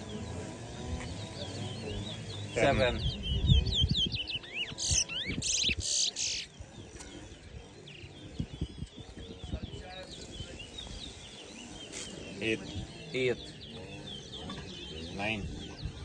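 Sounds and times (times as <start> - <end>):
finches chirping and trilling: 0.0 - 16.0.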